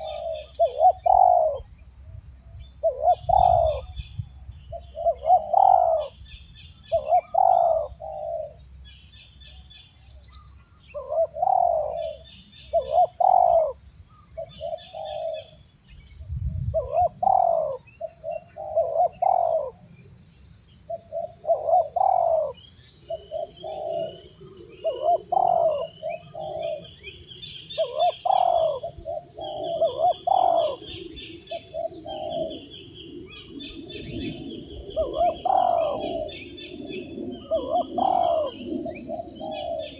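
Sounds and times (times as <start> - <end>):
doves cooing: 0.0 - 1.7, 2.8 - 4.0, 4.7 - 6.2, 6.8 - 8.7, 10.1 - 15.6, 16.7 - 19.9, 20.9 - 39.9
small birds chirping: 0.0 - 1.9, 2.5 - 16.2, 16.8 - 39.9.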